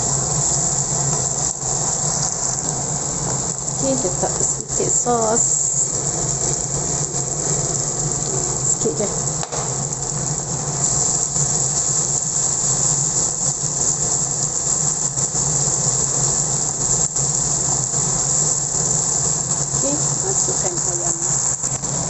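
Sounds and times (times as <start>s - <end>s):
paste sizzling in oil: 0.0s - 22.0s.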